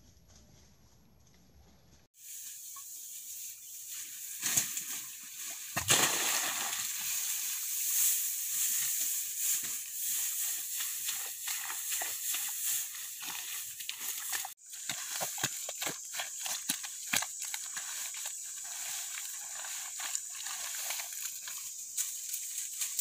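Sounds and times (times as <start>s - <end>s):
dry grass rustling and crackling: 2.2s - 23.0s.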